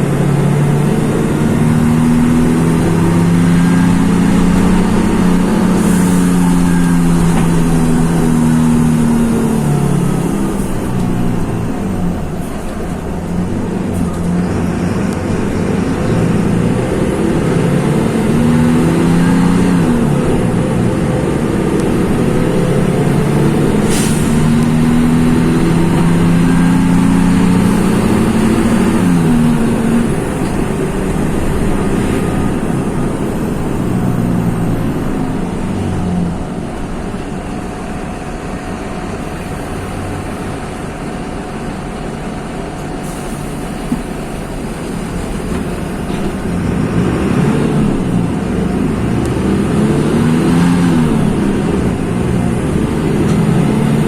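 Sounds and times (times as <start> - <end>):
bus diesel engine pulling under load: 0.0 - 54.0.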